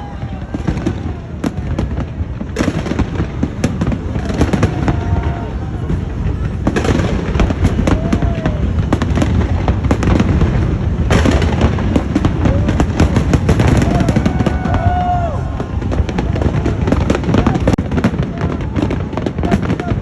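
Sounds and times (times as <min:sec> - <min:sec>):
crowd calling out: 0:00.0 - 0:20.0
fireworks bangs and crackling: 0:00.0 - 0:20.0.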